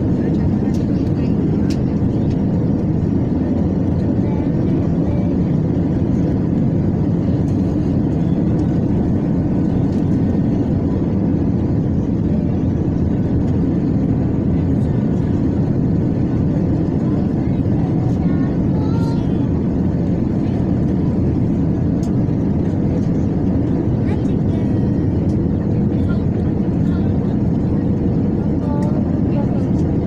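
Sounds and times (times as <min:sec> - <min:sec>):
jet engine drone in cabin: 0:00.0 - 0:30.0.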